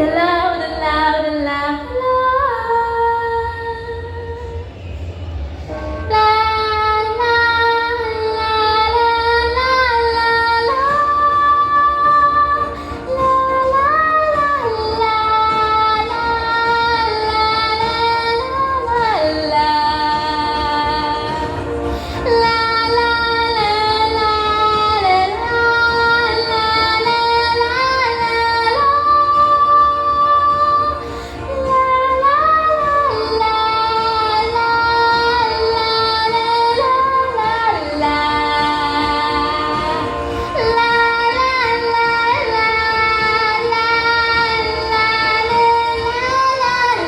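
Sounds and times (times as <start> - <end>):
woman singing la la: 0.0 - 4.6, 6.1 - 47.0.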